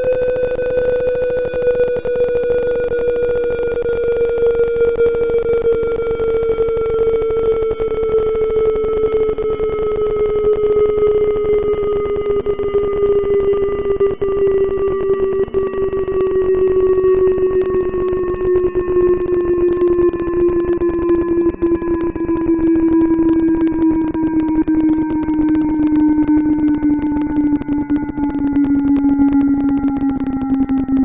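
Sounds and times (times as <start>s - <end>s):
crackling clicks: 0.0s - 31.0s
siren winding down: 0.0s - 31.0s.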